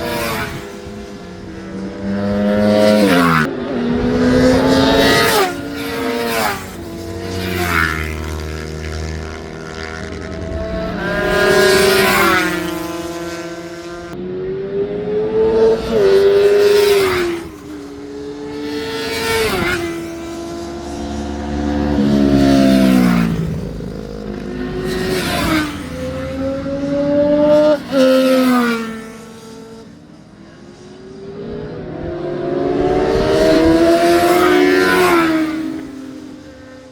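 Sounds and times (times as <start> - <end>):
motorcycles passing at speed: 0.0 - 36.9.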